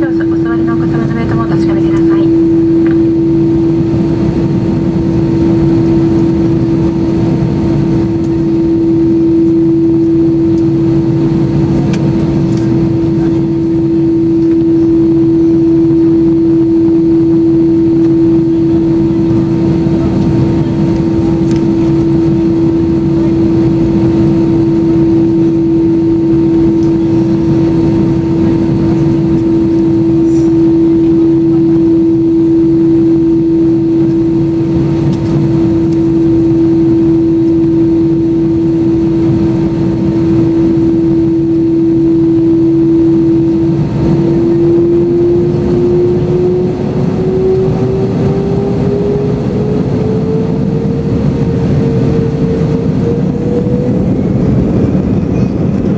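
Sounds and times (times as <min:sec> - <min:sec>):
jet engines heard in cabin: 0:00.0 - 0:55.9.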